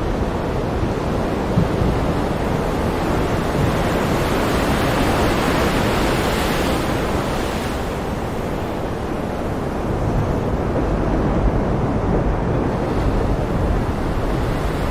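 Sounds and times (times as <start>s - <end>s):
strong wind on microphone: 0.0s - 14.9s.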